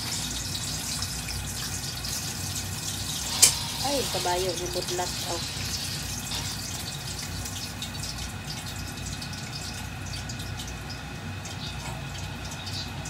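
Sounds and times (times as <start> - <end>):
pork deep-frying in oil: 0.0 - 13.0.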